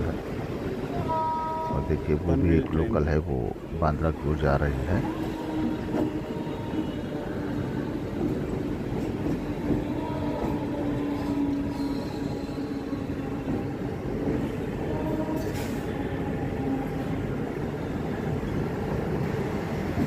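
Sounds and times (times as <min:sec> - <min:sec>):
train running alongside: 0:00.0 - 0:20.0.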